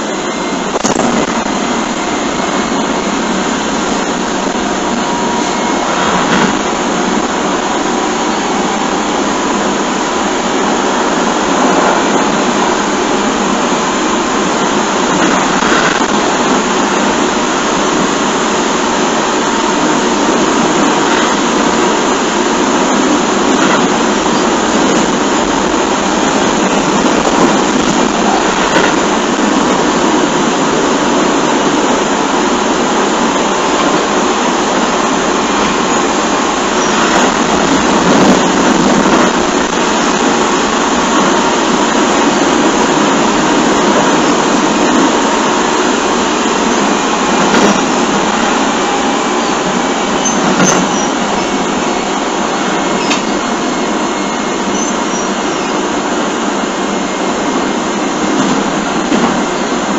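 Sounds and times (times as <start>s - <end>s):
traction motor hum: 0.0s - 59.9s
train wheels rumbling on rail: 0.0s - 59.9s.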